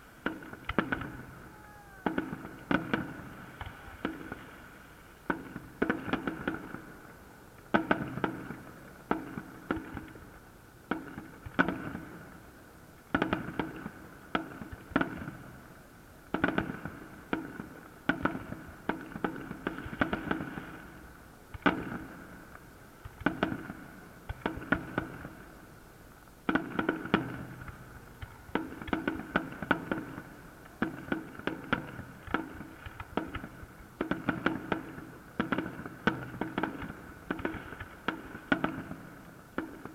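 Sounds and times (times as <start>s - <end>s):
fireworks bursting: 0.0s - 12.4s, 16.3s - 39.9s.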